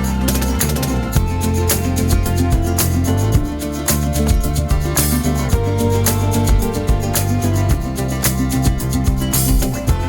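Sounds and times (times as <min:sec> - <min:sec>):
guitar music with steady beat: 0:00.0 - 0:10.0.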